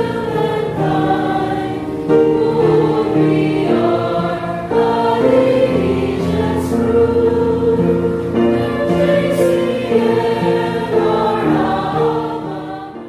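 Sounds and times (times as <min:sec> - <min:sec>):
choir singing in harmony: 0:00.0 - 0:13.0.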